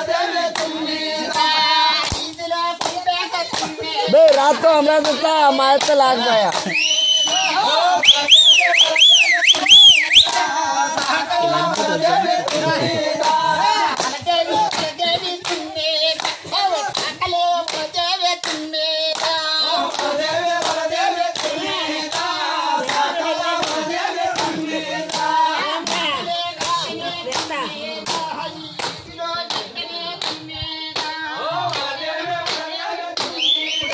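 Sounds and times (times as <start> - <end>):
group of people singing: 0.0 - 33.9
hands clapping in rhythm: 0.0 - 33.9.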